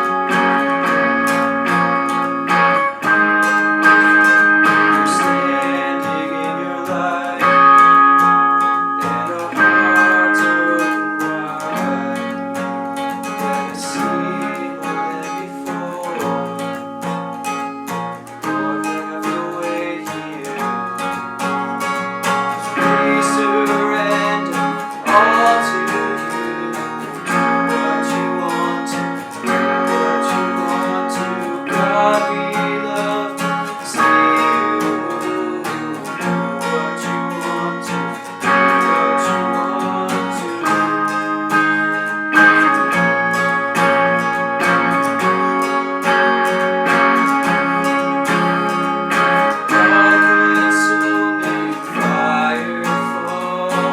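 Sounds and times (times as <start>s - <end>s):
strummed acoustic guitar: 0.0s - 53.9s.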